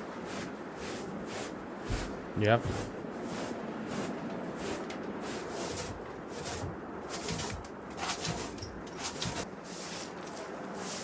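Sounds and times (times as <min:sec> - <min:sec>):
brushing and scraping: 0:00.0 - 0:11.0.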